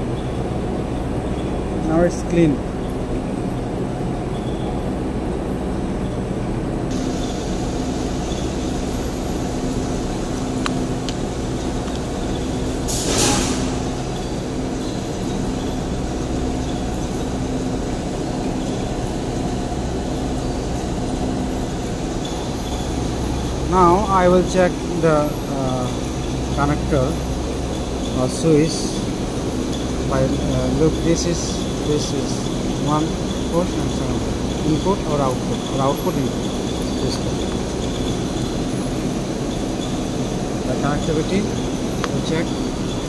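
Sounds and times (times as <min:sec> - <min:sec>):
industrial machinery humming: 0:00.0 - 0:43.0.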